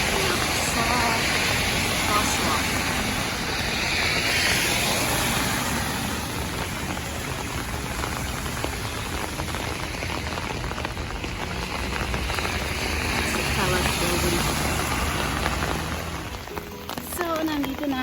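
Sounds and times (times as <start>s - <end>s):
heavy rain on umbrella: 0.0s - 18.0s.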